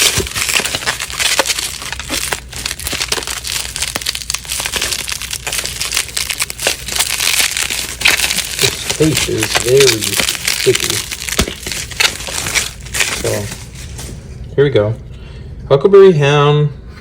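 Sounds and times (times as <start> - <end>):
packing tape and wrapping crinkling: 0.0 - 14.6.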